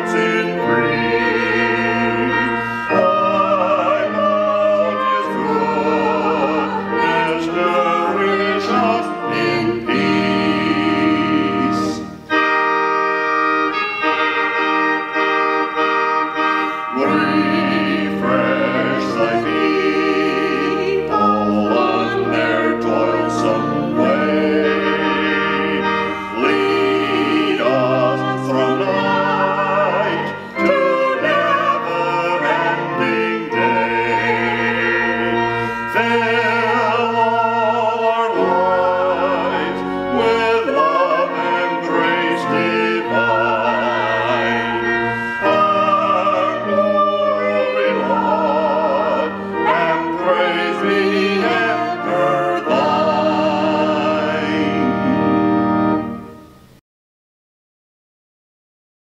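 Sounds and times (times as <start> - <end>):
man and woman singing a hymn: 0.0 - 12.7, 13.3 - 56.2
pipe organ playing chords: 0.0 - 56.8.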